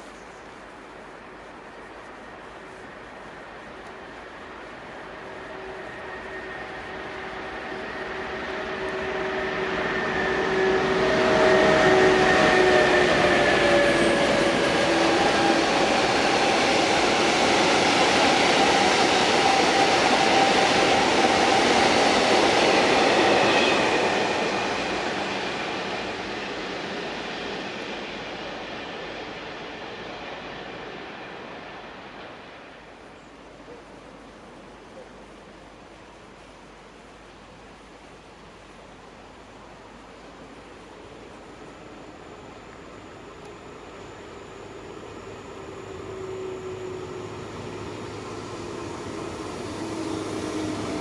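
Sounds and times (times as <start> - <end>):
train passing: 0.0 - 51.0.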